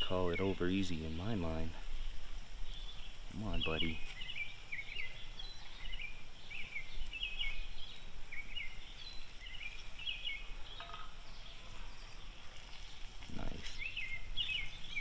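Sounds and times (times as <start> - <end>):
faint outdoor background: 0.0 - 15.0
songbird chirping: 0.0 - 15.0.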